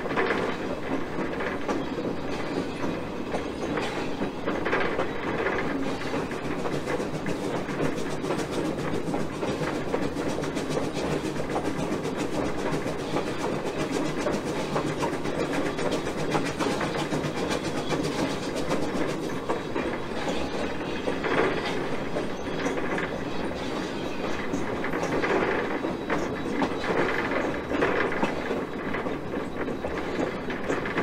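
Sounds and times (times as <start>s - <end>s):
locomotive running rumble: 0.0s - 31.0s
wheel clicks over rails: 0.0s - 31.0s.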